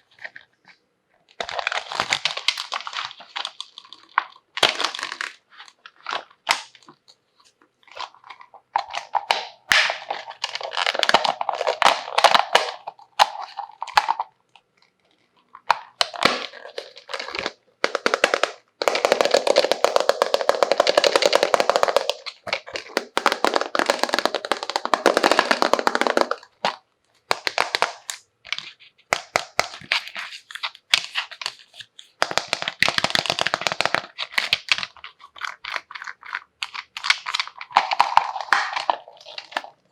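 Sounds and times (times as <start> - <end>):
plastic packaging crinkling: 1.3 - 39.9.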